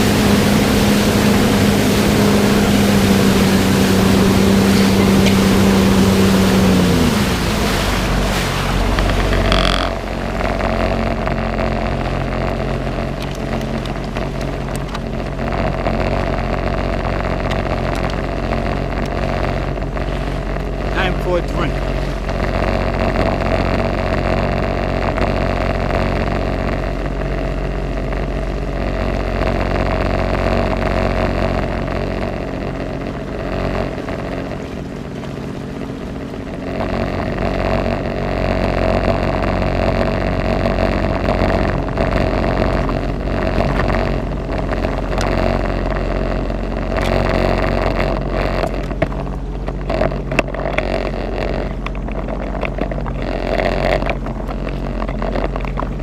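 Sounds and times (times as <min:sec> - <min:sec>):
jet ski engine droning: 0:00.0 - 0:56.0.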